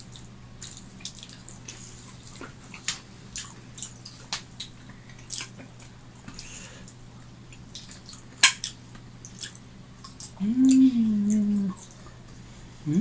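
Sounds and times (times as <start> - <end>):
people chewing food wetly: 0.0 - 13.0
steady low hum: 0.0 - 13.0.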